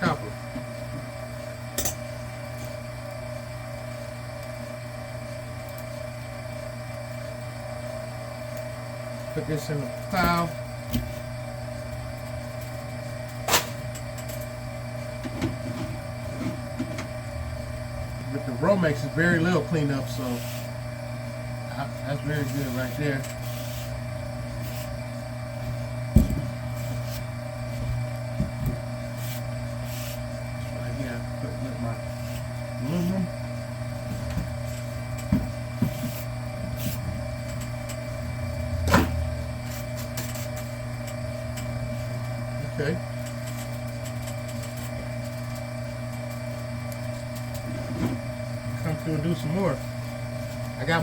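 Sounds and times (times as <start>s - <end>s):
small electric motor humming: 0.0s - 51.0s.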